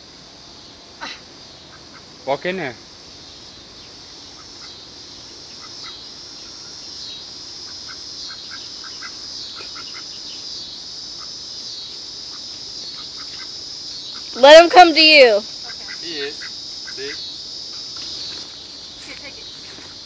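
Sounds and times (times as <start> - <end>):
high-pitched buzzing chorus: 0.0 - 20.0.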